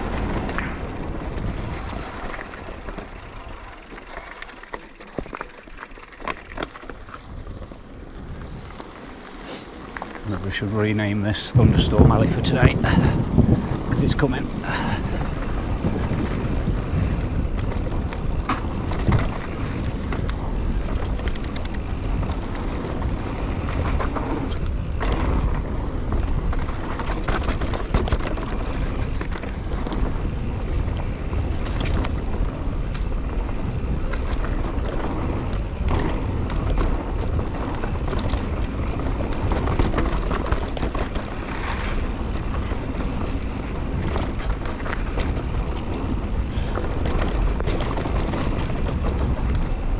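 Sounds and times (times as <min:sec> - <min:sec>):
wind buffeting microphone: 0:00.0 - 0:04.6, 0:06.4 - 0:09.3, 0:10.0 - 0:49.9
bike knocks and rattles: 0:00.0 - 0:07.4, 0:11.6 - 0:49.9
bike tyre noise: 0:00.0 - 0:49.9.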